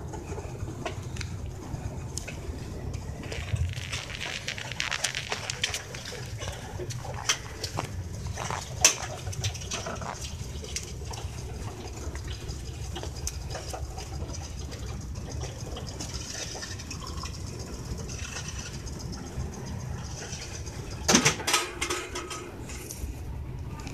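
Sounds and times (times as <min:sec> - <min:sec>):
miniature train wheels rumbling: 0:00.0 - 0:23.9
wheels clicking on rails: 0:00.0 - 0:23.9.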